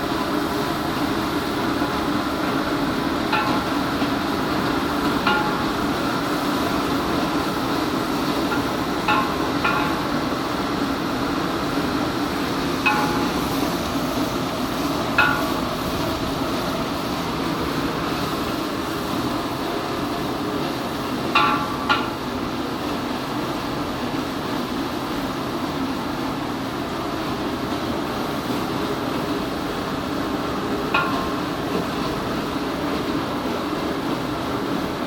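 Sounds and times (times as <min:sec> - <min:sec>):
gas burner noise: 0:00.0 - 0:35.0.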